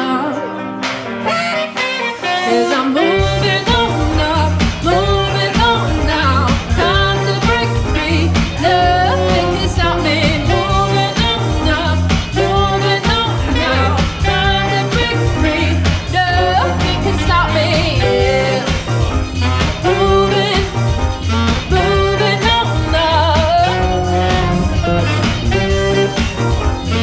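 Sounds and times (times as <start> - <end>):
band music: 0.0 - 27.0
pitch-bending melody line: 1.1 - 27.0
bass and drums: 3.2 - 27.0.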